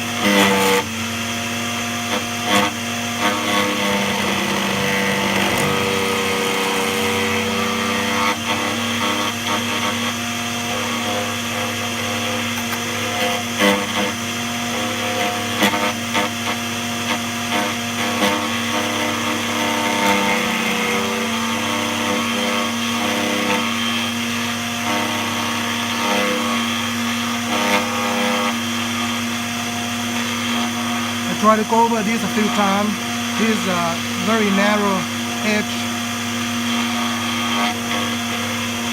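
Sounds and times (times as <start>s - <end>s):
key cutting machine motor hum: 0.0s - 38.9s.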